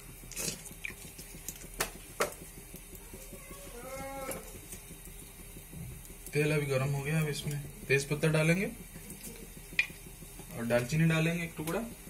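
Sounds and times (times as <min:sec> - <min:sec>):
low background hum: 0:00.0 - 0:12.0
oil crackling and popping: 0:00.0 - 0:12.0.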